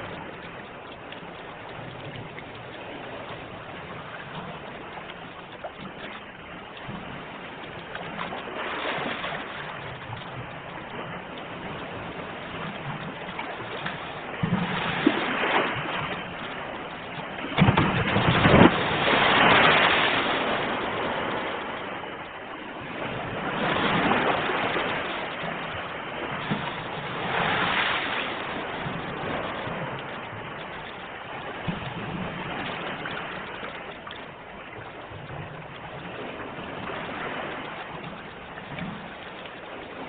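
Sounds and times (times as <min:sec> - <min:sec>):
sea waves breaking on shore: 0:00.0 - 0:40.0.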